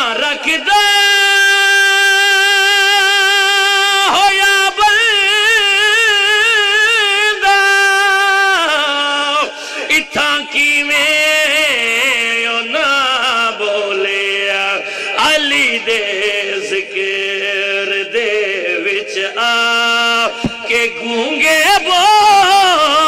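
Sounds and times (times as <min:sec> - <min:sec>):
man chanting through microphone: 0:00.0 - 0:23.0.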